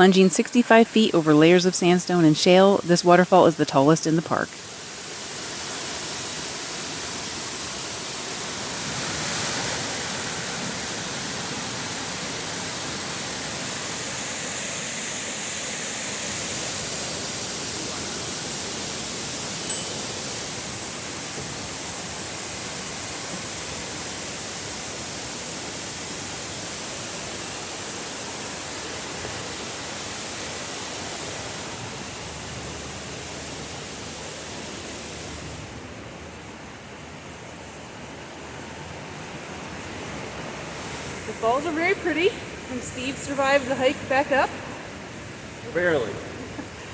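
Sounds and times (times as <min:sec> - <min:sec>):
waterfall rushing: 0:00.0 - 0:35.8, 0:37.6 - 0:46.9.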